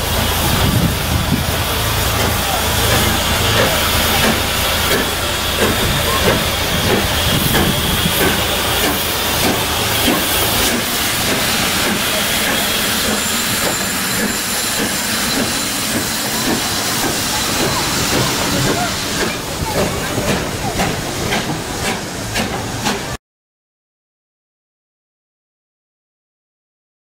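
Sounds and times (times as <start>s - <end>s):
steam hissing: 0.0s - 23.2s.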